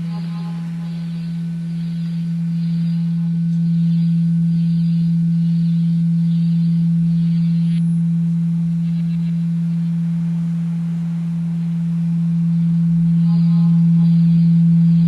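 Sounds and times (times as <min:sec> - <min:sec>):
faint hiss: 0:00.0 - 0:15.0
low electronic drone: 0:00.0 - 0:15.0.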